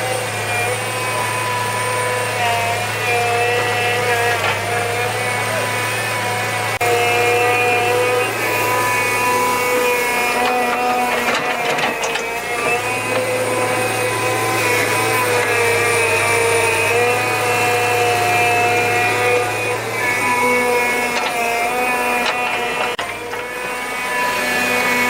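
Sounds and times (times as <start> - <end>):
small motor humming: 0.0 - 25.0.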